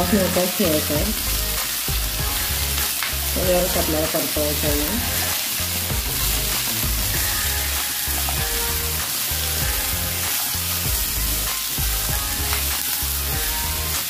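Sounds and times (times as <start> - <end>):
vegetables sizzling in oil: 0.0 - 14.0
spatula stirring in pan: 1.0 - 14.0.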